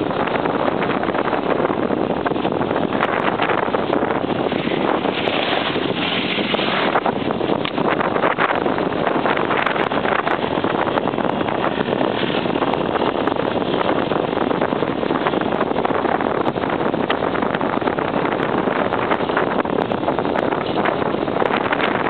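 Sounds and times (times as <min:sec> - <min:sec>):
motorcycle engine: 0:00.0 - 0:22.0
wind noise on microphone: 0:00.0 - 0:22.0.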